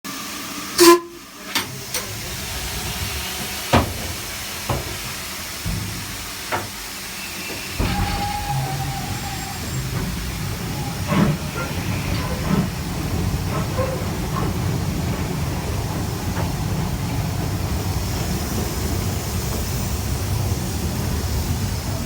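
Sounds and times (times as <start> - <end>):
loud steam burst: 0.1 - 22.0
steam hissing: 0.1 - 22.0.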